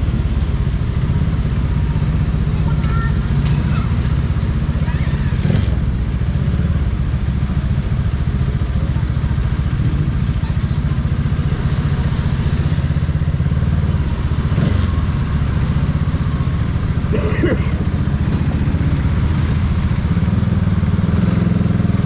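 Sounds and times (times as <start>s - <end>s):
motorcycle engine running: 0.0s - 22.0s
road and traffic noise: 0.0s - 22.0s.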